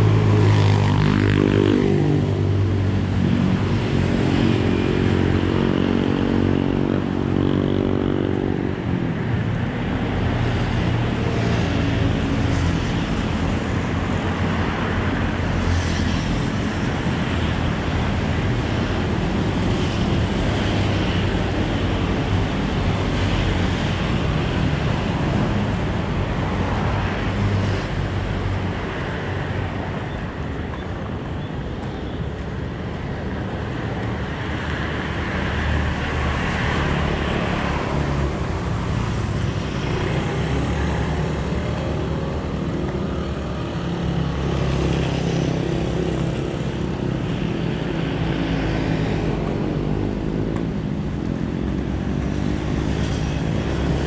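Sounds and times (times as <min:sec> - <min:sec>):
traffic noise rushing: 0:00.0 - 0:54.0.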